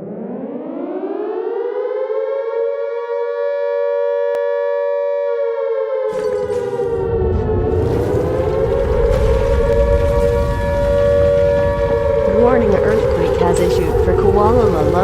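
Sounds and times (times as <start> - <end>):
two-tone siren wail: 0.0 - 15.0.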